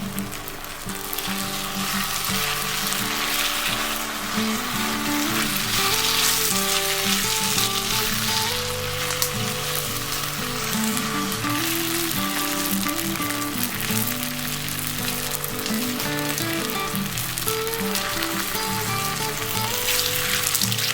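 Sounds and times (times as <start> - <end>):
background music: 0.0 - 20.9
food sizzling: 0.0 - 20.9.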